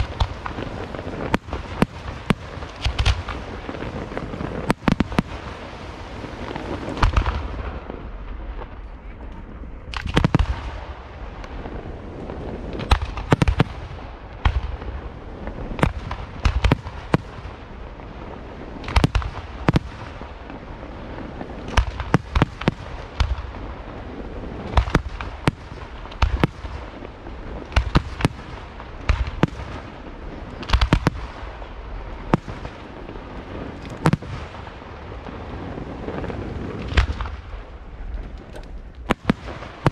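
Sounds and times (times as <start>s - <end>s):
low rumble and crackle: 0.0s - 39.9s.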